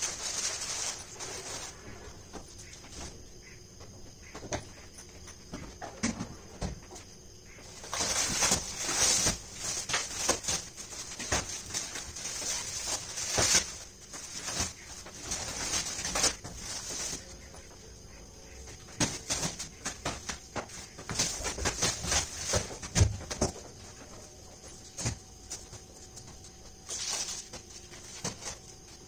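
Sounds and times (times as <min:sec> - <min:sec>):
plastic wrapping rustling: 0:00.0 - 0:03.0, 0:07.6 - 0:17.7, 0:18.5 - 0:29.0.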